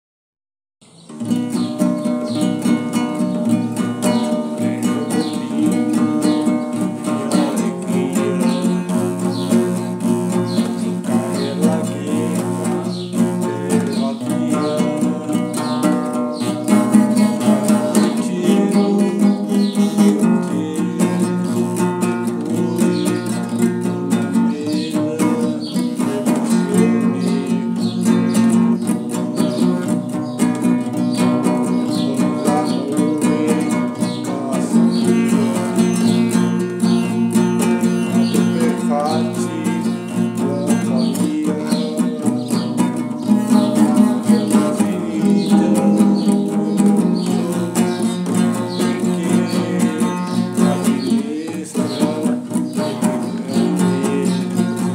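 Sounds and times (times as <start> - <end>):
acoustic guitar strumming chords: 0.8 - 54.9.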